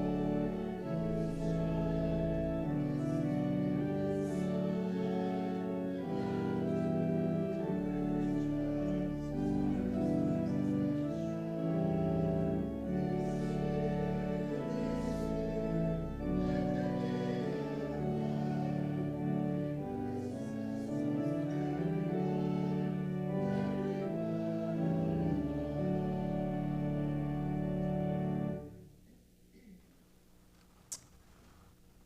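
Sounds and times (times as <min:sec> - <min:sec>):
slow church keyboard chords: 0:00.0 - 0:30.2.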